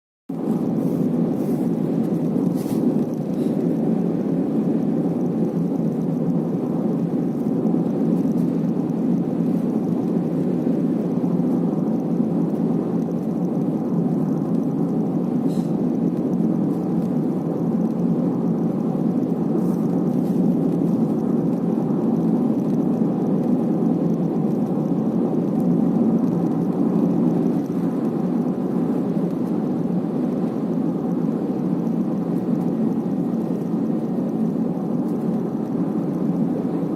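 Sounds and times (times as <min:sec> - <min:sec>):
road and tyre rumble: 0:00.3 - 0:36.9.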